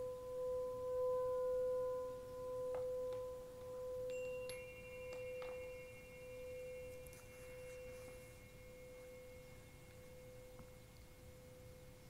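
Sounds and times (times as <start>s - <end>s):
sustained ringing tone: 0.0s - 12.0s
higher chime-like tones: 2.0s - 12.0s.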